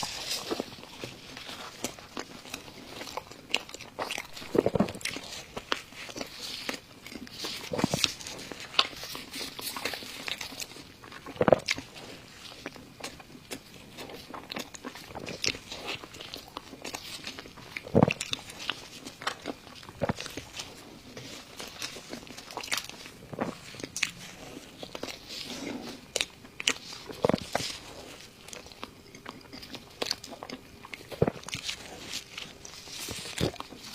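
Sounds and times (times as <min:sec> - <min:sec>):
crunchy chewing: 0:00.0 - 0:33.9.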